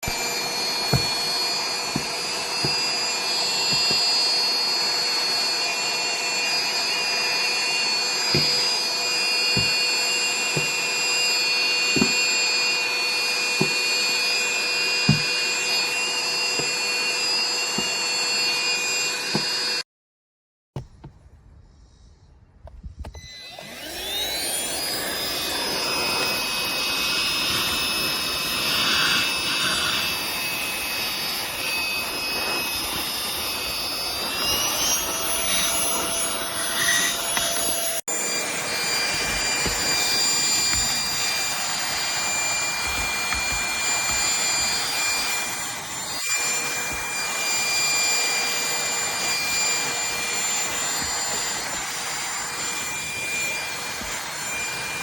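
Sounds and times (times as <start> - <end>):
handheld vacuum cleaner whine: 0.0 - 19.8, 22.7 - 55.0.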